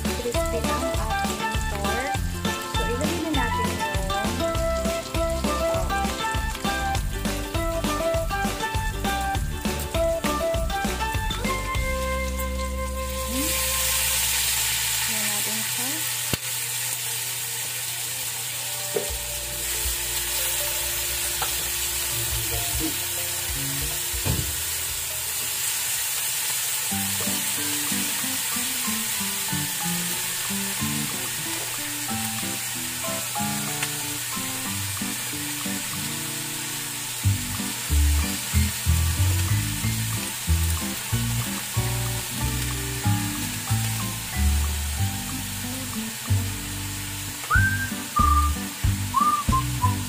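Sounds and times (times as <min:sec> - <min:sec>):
food sizzling in a wok: 0:00.0 - 0:50.0.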